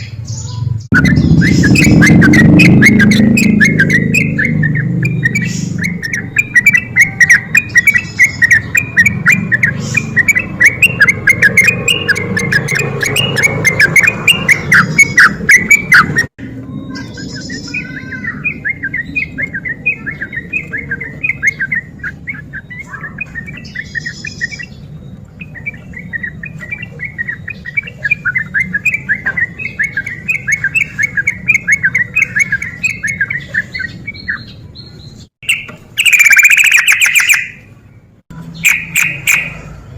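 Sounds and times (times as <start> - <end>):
higher bird calls: 0.0 - 37.7
bulbul chattering song: 0.0 - 39.9.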